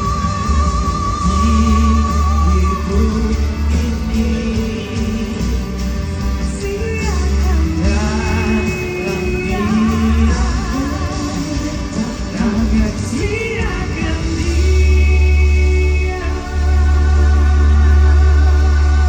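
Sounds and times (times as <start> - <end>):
live band accompaniment: 0.0 - 19.0
person singing with vibrato: 0.0 - 19.0.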